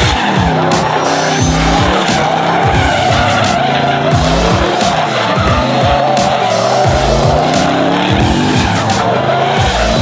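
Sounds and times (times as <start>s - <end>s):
music with heavy bass beat: 0.0s - 10.0s
racing engine at speed: 0.0s - 10.0s
sliding bass notes: 0.0s - 10.0s
tyre squeal: 0.0s - 10.0s.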